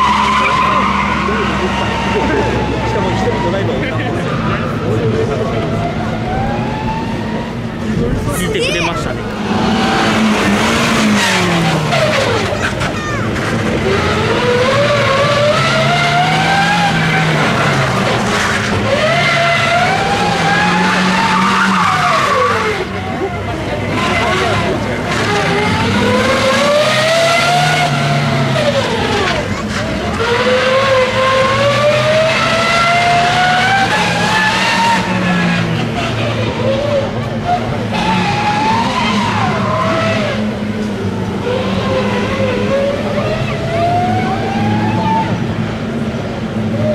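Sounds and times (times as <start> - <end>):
tyres skidding on dirt: 0.0 - 46.9
van engine accelerating: 0.0 - 46.9.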